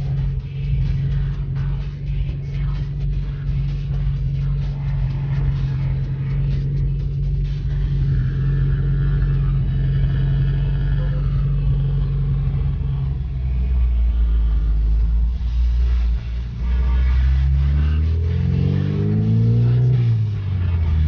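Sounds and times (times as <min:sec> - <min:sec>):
car engine drone from cabin: 0:00.0 - 0:21.0.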